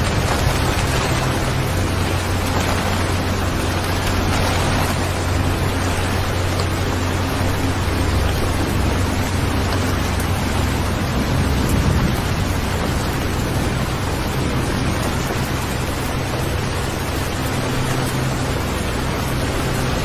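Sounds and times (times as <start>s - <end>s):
low rumble: 0.0s - 20.0s
steady rain: 0.0s - 20.0s.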